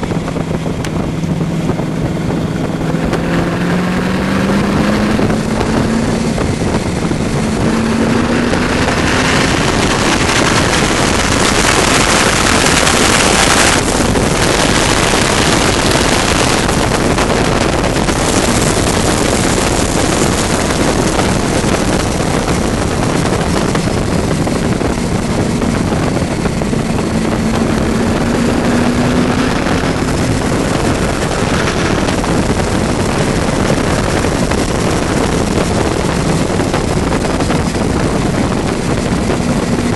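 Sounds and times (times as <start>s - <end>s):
engine pulling hard: 0.0s - 39.9s
wind rushing on microphone: 0.0s - 39.9s.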